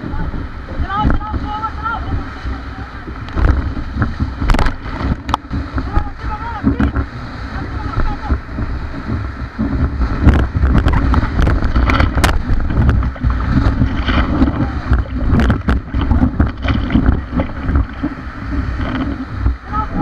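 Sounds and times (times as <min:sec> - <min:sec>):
river water rushing and splashing: 0:00.0 - 0:20.0
wind buffeting microphone: 0:00.0 - 0:20.0.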